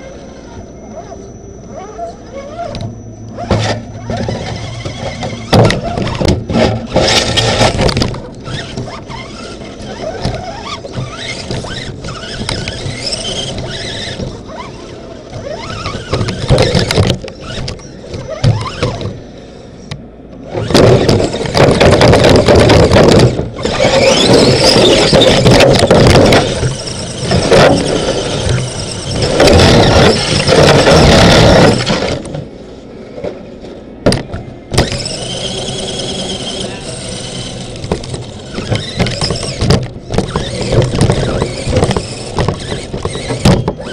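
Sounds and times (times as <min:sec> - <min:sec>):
electric motor whining: 0:00.0 - 0:32.5, 0:34.6 - 0:43.9.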